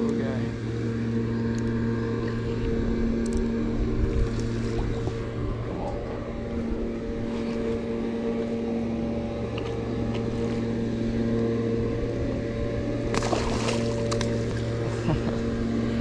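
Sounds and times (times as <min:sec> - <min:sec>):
distant motor drone: 0:00.0 - 0:16.0.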